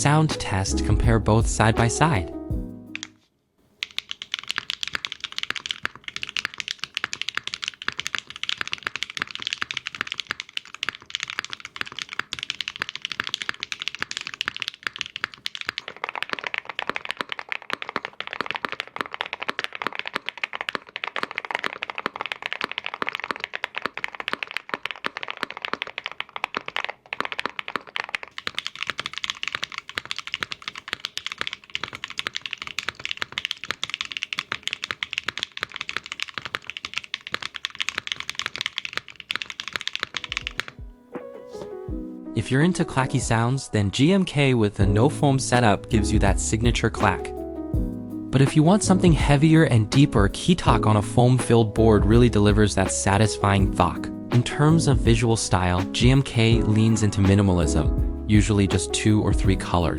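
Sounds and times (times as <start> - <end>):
fast typing on mechanical keyboard: 3.0 - 3.2, 3.8 - 40.9, 46.6 - 47.2, 48.4 - 59.9.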